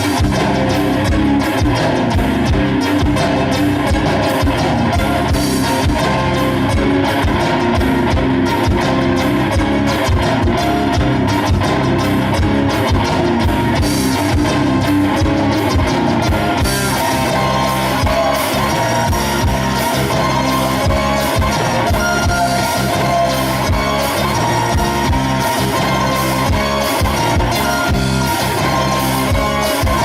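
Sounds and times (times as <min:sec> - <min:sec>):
drum kit beat: 0:00.0 - 0:30.0
electric guitar: 0:00.0 - 0:30.0.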